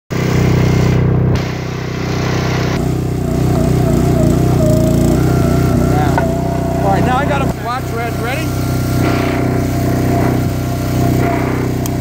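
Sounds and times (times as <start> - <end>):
small gas engine running: 0.1 - 12.0
wavering whine: 0.2 - 12.0.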